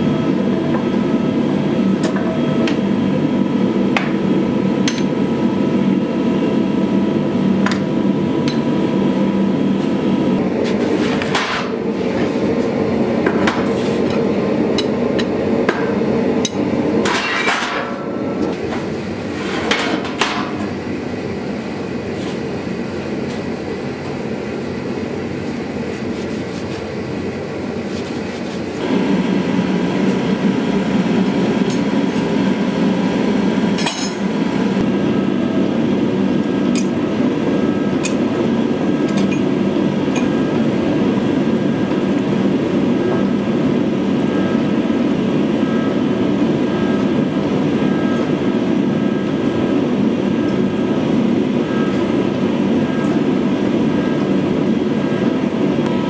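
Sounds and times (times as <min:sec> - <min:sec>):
forge machine noise: 0:00.0 - 0:56.0.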